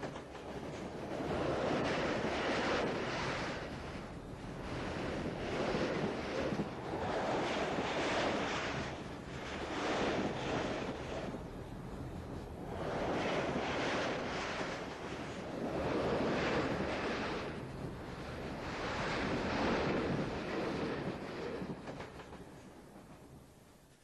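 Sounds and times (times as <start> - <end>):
wind blowing in gusts: 0.0 - 23.8.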